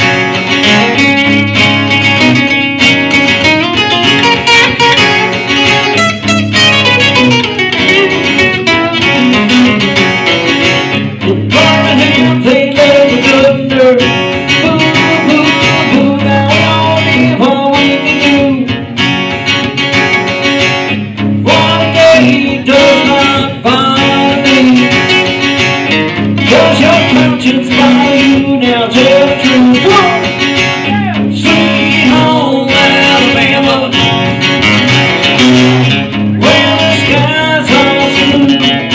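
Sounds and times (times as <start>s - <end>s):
acoustic guitar through speakers: 0.0s - 38.9s.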